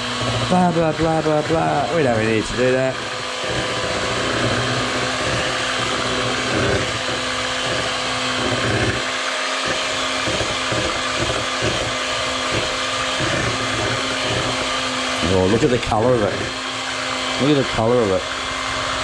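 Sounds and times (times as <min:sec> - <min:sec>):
electric hand mixer whisking: 0:00.0 - 0:19.0.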